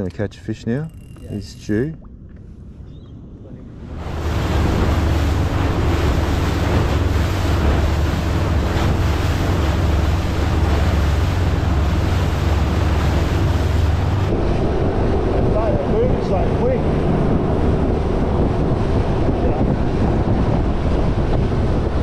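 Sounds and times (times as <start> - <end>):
deep rumble: 0.0 - 22.0
wind buffeting microphone: 0.0 - 22.0
water rushing past hull: 3.6 - 22.0.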